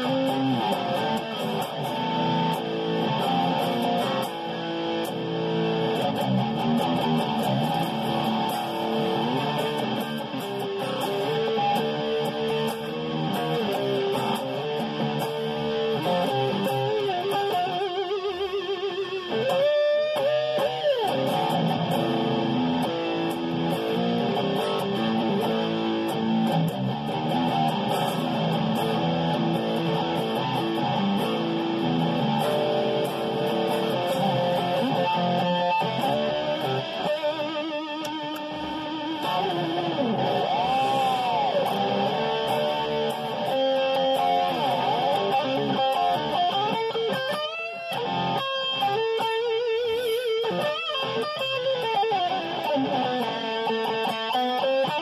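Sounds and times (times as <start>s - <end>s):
electric guitar riffs: 0.0s - 55.0s.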